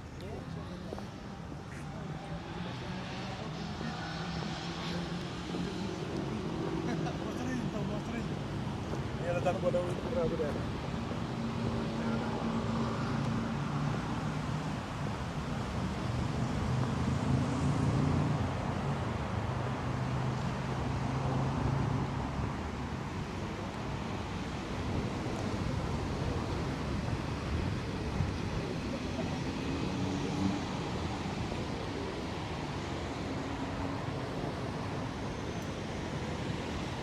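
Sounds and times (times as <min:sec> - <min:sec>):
road traffic noise: 0:00.0 - 0:37.0.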